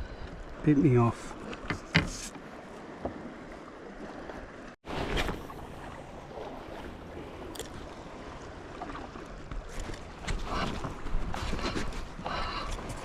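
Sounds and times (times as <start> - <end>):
water sloshing against hull: 0.0 - 13.0.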